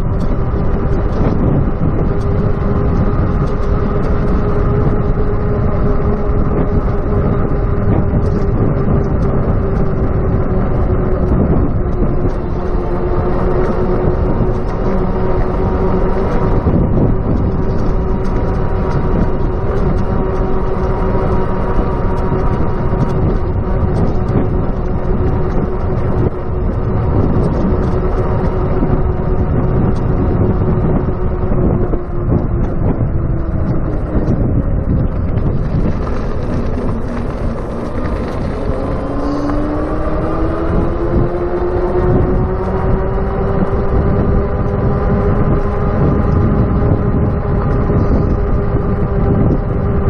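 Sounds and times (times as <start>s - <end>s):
electric bicycle rumble: 0.0s - 50.0s
hub motor whine: 0.0s - 50.0s
wind rushing over camera: 0.0s - 50.0s.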